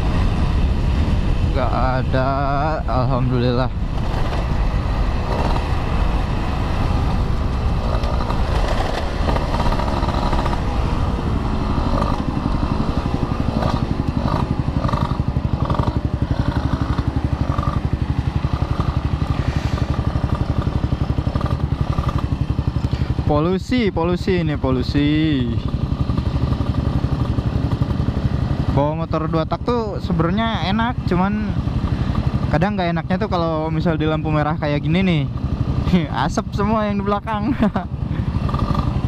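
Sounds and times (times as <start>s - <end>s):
two-stroke motorcycle engine running: 0.0s - 39.0s.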